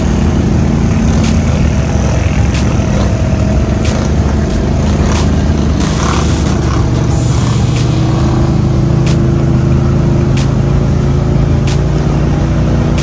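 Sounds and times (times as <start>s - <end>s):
quad engines under load: 0.0s - 13.0s.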